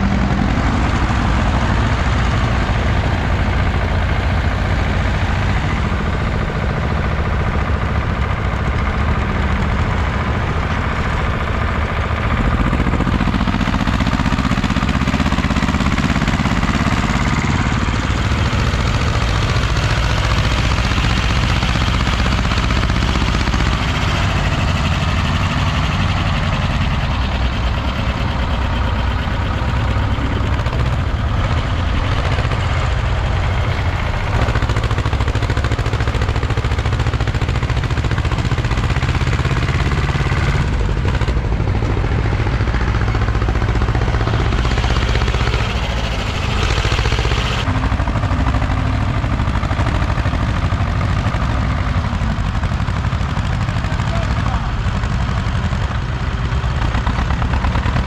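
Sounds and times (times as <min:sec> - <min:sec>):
tractor diesel engines under load: 0:00.0 - 0:58.0.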